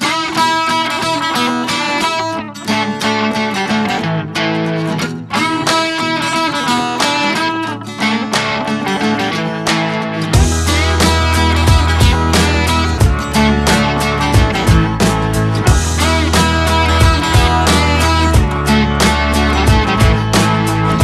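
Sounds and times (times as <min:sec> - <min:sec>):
plucked guitar music: 0:00.0 - 0:21.0.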